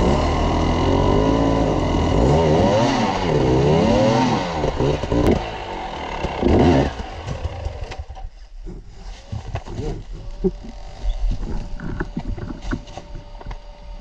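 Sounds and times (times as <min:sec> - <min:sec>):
dirt bike engine revving: 0:00.0 - 0:08.2, 0:09.9 - 0:14.0.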